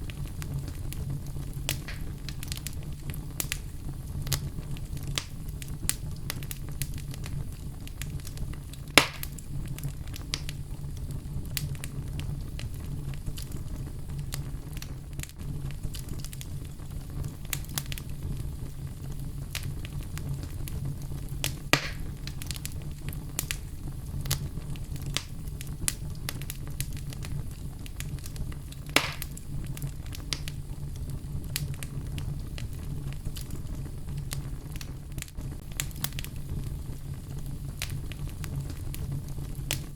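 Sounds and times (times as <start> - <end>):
loud fire pops: 0.0 - 39.9
wood fire crackling: 0.0 - 39.9.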